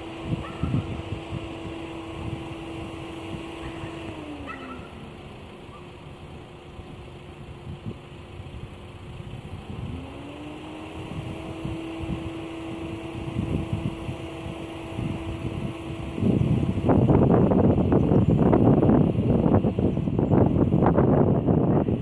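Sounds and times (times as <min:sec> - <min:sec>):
rising whine: 0:00.0 - 0:22.0.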